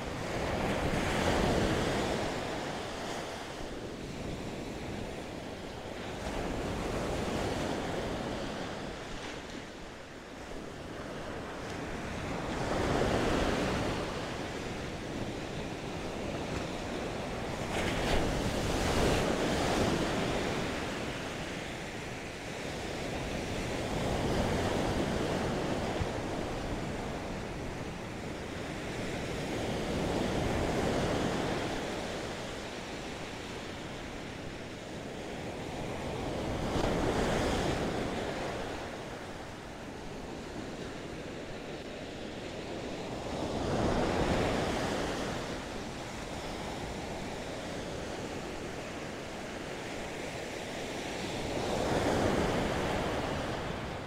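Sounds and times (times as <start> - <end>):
ocean surf breaking on sand: 0.0 - 54.0.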